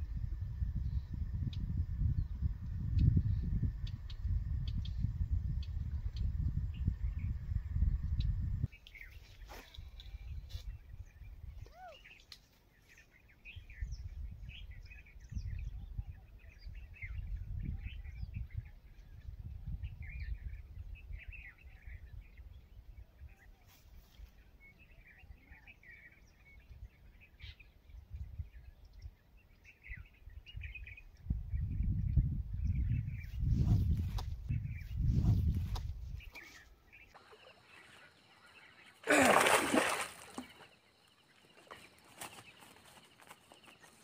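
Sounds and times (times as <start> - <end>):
wind rumble on microphone: 0.0 - 12.1, 13.4 - 37.0
small birds chirping: 0.8 - 44.0.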